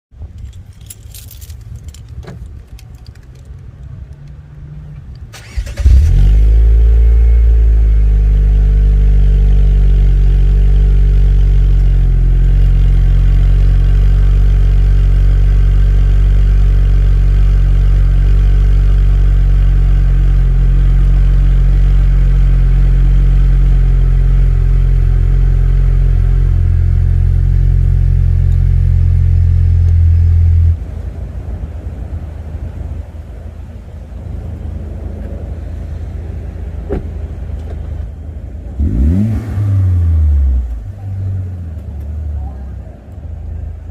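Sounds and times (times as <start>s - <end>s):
car engine starting and idling: 0.2s - 43.9s.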